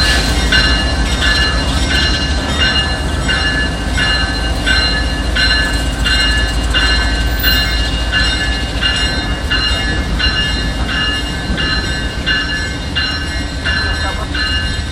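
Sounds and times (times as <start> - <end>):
diesel locomotive rumble: 0.0 - 14.9
locomotive bell ringing: 0.0 - 14.9.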